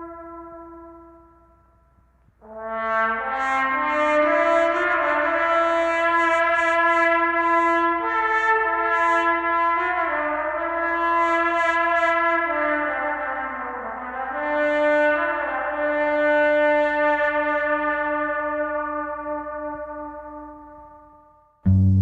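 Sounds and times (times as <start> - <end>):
trumpets playing sustained notes: 0.0 - 1.6, 2.4 - 22.0.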